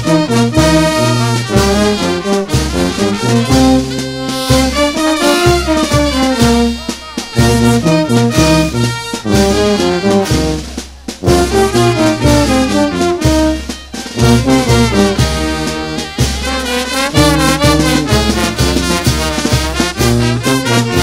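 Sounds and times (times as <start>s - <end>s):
brass band playing dance tune: 0.0s - 21.0s
trumpets and trombones melody: 0.0s - 21.0s.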